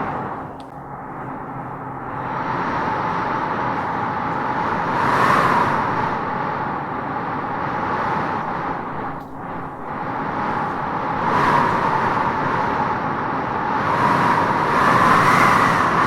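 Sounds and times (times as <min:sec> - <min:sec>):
howling wind through trees: 0:00.0 - 0:16.0.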